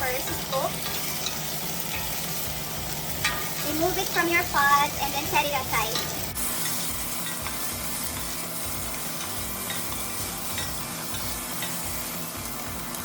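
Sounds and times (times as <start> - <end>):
peppers sizzling in hot oil: 0.0 - 13.0
utensil ticking against pot: 0.0 - 13.0.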